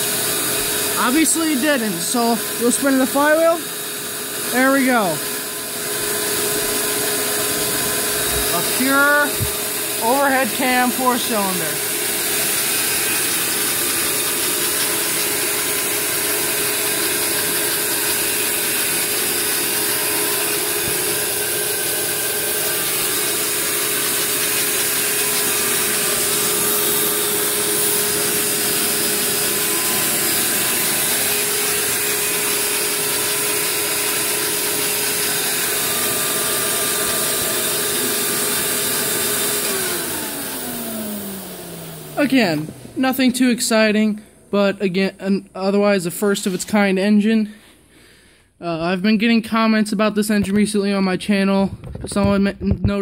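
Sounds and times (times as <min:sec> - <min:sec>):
vacuum cleaner whining: 0:00.0 - 0:48.4.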